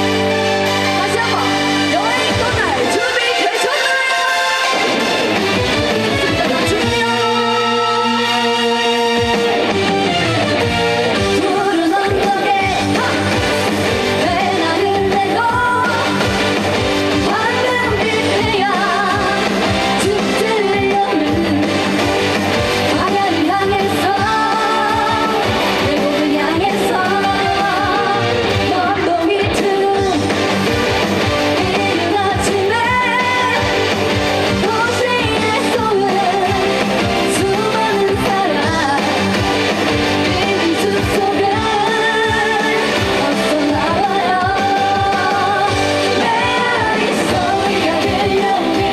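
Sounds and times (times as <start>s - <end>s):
guitar: 0.0s - 48.9s
woman singing: 1.0s - 4.9s, 6.2s - 8.6s, 11.2s - 22.2s, 22.8s - 30.8s, 31.4s - 39.4s, 40.0s - 48.9s.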